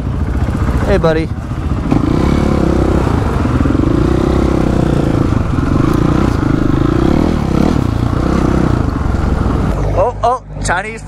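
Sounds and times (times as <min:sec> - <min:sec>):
dirt bike engines at low revs: 0:00.0 - 0:10.0.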